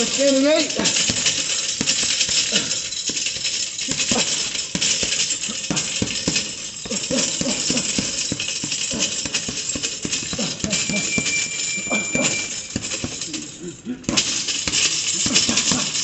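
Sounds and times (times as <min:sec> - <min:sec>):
boxing gloves punching bag: 0:00.0 - 0:16.0.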